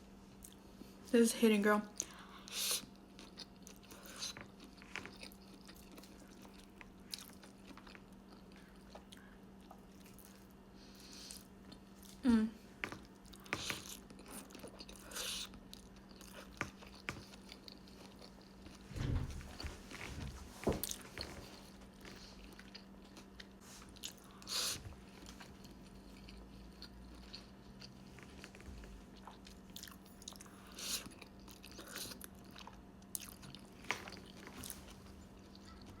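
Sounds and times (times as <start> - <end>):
faint steady hum: 0.0 - 36.0
crunchy chewing: 2.0 - 12.2, 12.8 - 18.8, 20.8 - 36.0.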